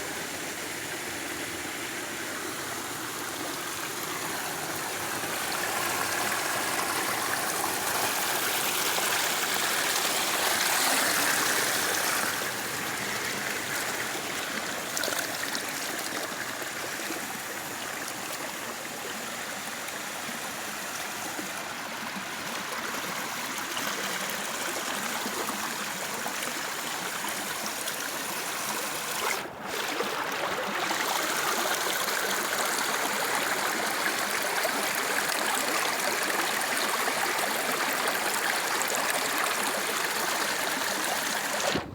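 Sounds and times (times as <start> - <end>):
stream water running: 0.0 - 41.9.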